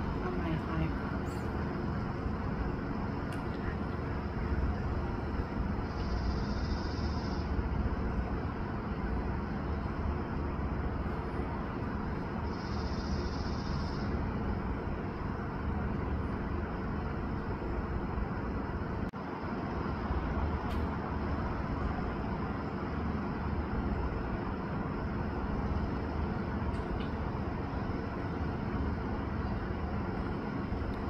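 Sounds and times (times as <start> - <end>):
outdoor background rumble: 0.0 - 31.0.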